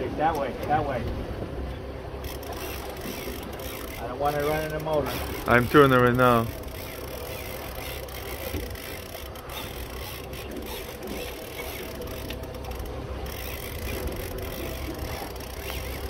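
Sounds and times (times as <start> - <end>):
boat motor humming: 0.0 - 16.0
fishing reel cranking: 2.2 - 16.0.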